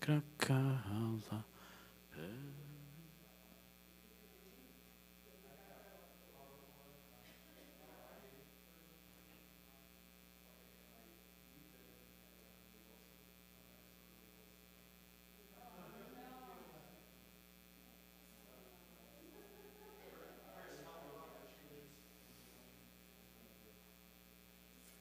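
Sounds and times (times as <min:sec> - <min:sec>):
electrical mains hum: 0:00.0 - 0:25.0
faint distant voices: 0:02.1 - 0:14.6, 0:15.4 - 0:17.1, 0:17.8 - 0:24.0.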